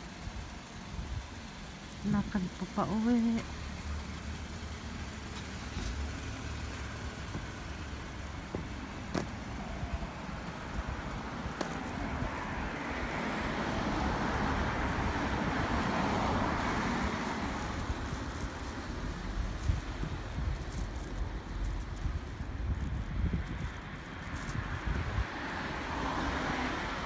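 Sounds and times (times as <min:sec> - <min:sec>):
steady low rumble: 0:00.0 - 0:25.4
car passing: 0:02.1 - 0:27.0.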